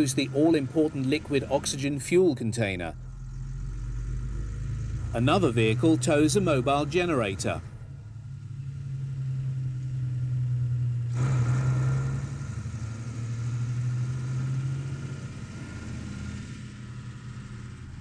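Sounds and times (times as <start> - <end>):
heavy lorry engine droning: 0.0 - 18.0.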